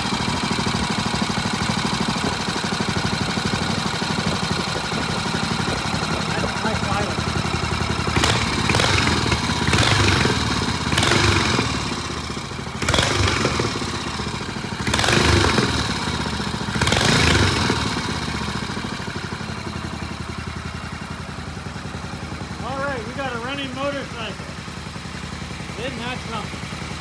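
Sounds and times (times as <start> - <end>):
motorcycle engine revving and idling: 0.0 - 27.0.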